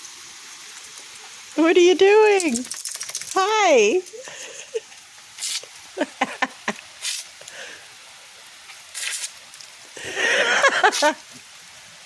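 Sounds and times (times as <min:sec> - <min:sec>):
hose water spraying and splashing: 0:00.0 - 0:12.0.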